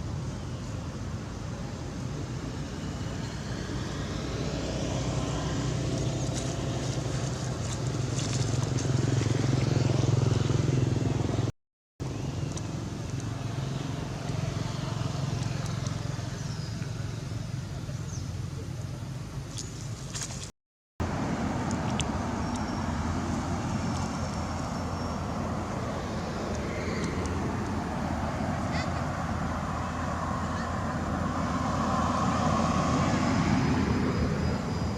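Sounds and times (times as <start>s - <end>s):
vehicle engines humming: 0.0s - 34.9s.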